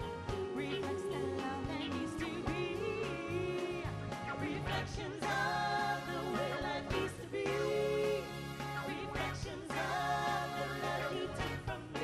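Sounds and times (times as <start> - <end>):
drums: 0.0 - 12.0
keyboards: 0.0 - 12.0
women singing: 0.0 - 12.0.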